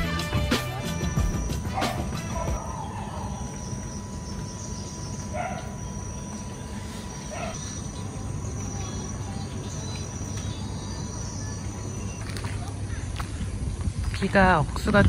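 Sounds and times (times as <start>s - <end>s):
insects chirring: 0.2s - 15.0s.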